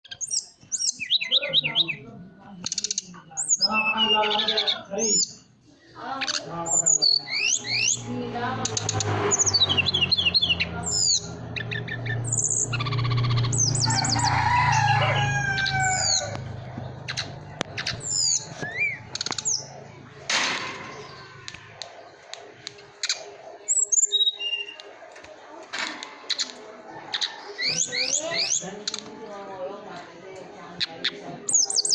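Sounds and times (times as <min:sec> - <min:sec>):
songbird chirps and trills: 0:00.0 - 0:30.0.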